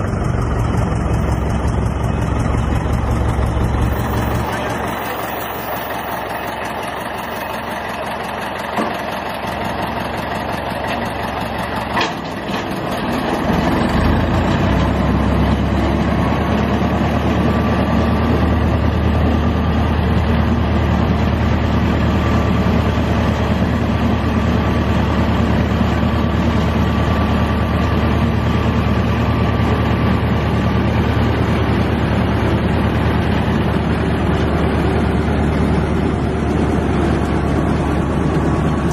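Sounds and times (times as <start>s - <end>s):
crane engine running: 0.0s - 38.9s.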